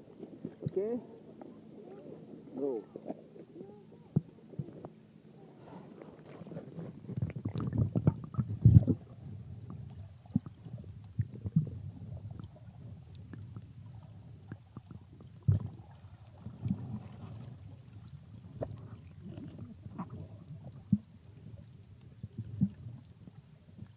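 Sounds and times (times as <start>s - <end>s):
underwater sloshing and gurgling: 0.0s - 23.9s.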